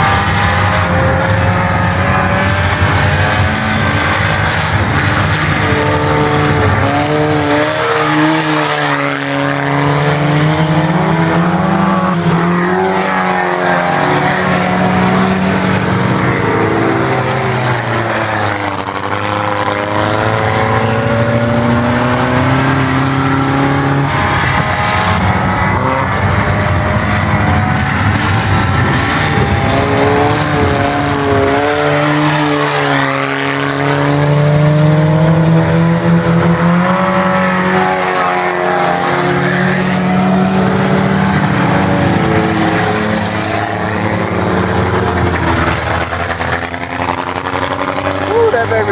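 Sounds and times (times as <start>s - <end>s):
race car engines running hard: 0.0s - 48.9s.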